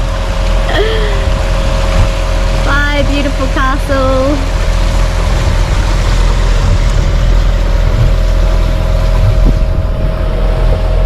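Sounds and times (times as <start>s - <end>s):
boat engine whine: 0.0s - 11.0s
rushing water noise: 0.0s - 11.0s.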